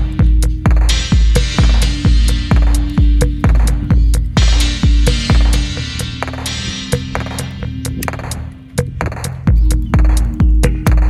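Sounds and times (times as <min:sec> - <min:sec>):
deep kick drum: 0:00.0 - 0:11.0
light percussion ticks: 0:00.0 - 0:11.0
synth chords: 0:00.0 - 0:11.0.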